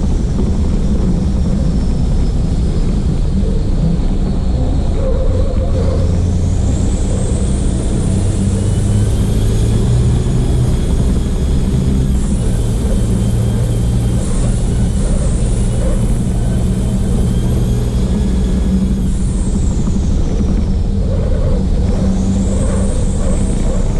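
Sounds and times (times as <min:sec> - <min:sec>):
diesel truck engine running hard: 0:00.0 - 0:23.9
high whine: 0:00.0 - 0:23.9.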